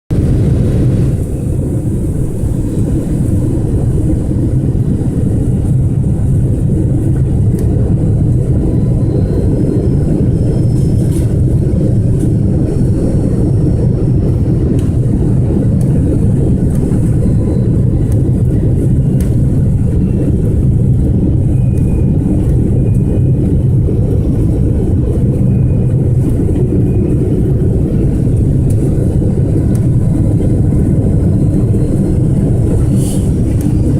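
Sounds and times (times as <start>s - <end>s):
airliner cabin engine rush: 0.1s - 33.9s.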